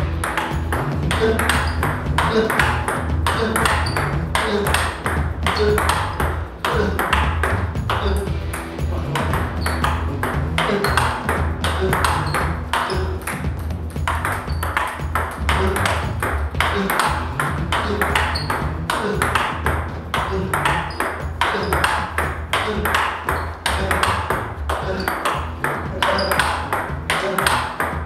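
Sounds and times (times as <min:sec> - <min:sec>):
table tennis balls clicking: 0:00.0 - 0:28.0.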